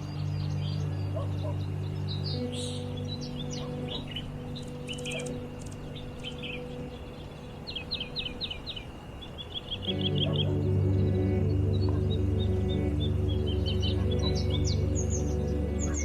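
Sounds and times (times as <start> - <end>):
bird trill: 0.0 - 16.0
soft background music pad: 0.0 - 16.0
songbirds chirping: 0.0 - 16.0.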